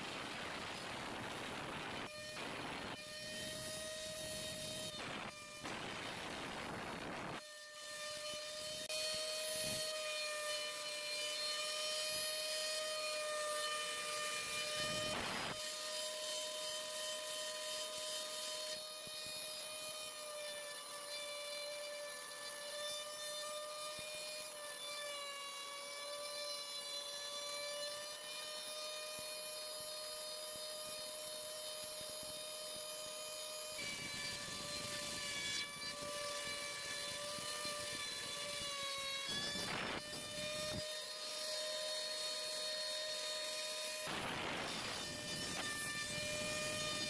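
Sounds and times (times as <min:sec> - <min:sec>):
router spindle high whine: 0:00.1 - 0:47.0.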